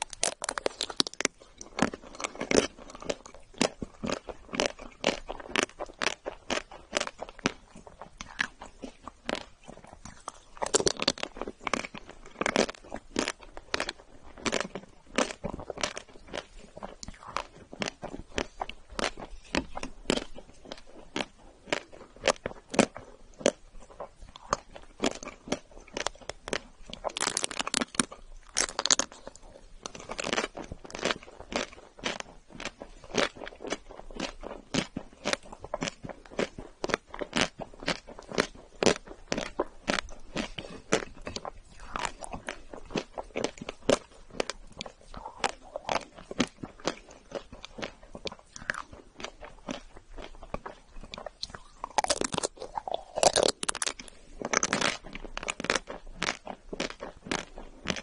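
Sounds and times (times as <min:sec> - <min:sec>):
chewing: 0:00.0 - 0:58.0
chocolate shell crunching: 0:00.0 - 0:58.0.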